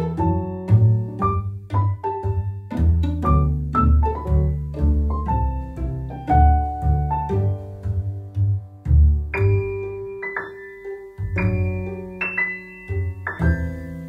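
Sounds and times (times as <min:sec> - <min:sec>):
keyboard music over bass line: 0:00.0 - 0:14.0.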